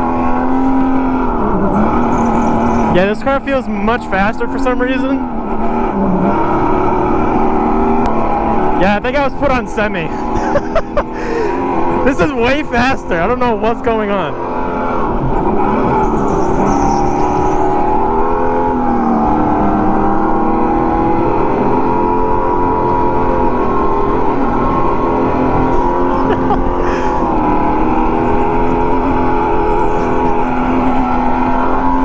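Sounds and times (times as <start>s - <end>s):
go-kart motor running: 0.0s - 32.0s.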